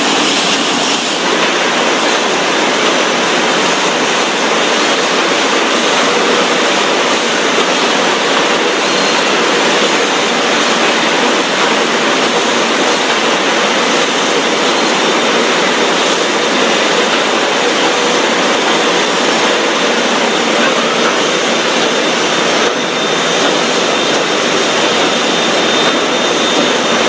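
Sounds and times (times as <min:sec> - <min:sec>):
factory machinery running: 0:00.0 - 0:27.0.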